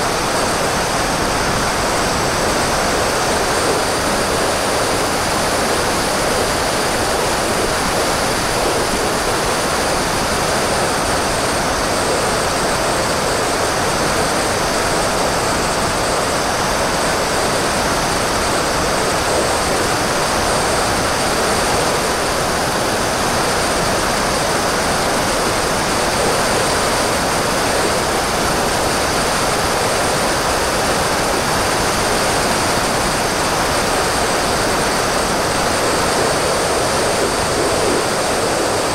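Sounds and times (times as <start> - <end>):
rush of airflow: 0.0 - 38.9.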